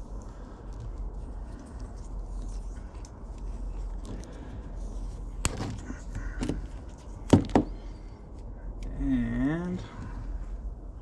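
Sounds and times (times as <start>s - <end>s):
tape and wires rustling: 0.0s - 11.0s.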